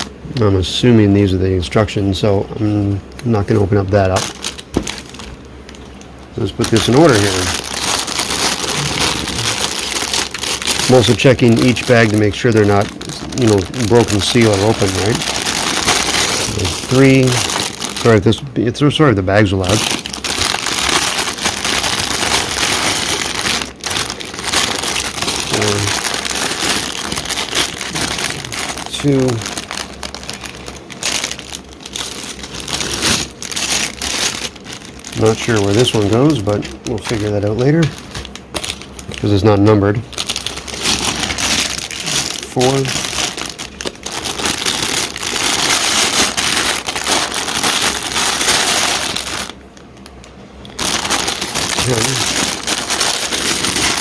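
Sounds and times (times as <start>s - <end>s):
plastic bags crinkling: 2.7s - 54.0s.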